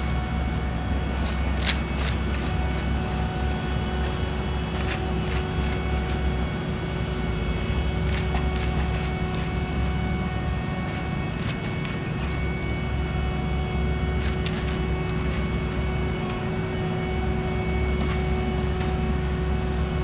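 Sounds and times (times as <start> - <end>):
diesel paving equipment rumbling: 0.0 - 20.0.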